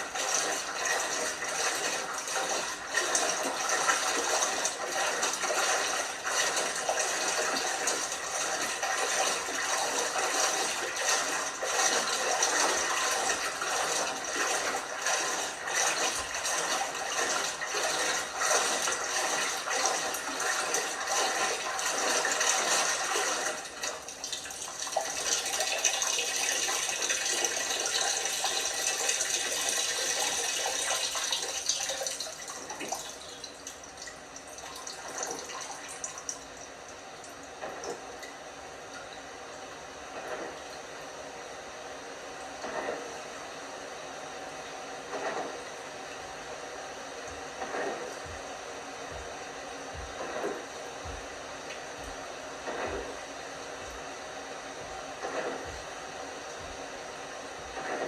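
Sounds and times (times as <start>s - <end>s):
washing machine filling with water: 0.0s - 58.0s.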